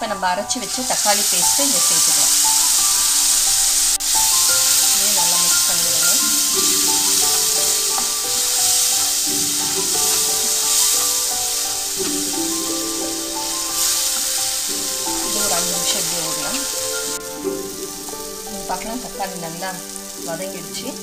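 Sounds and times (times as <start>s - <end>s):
background music with held notes: 0.0s - 21.0s
food sizzling in a pan: 0.0s - 21.0s.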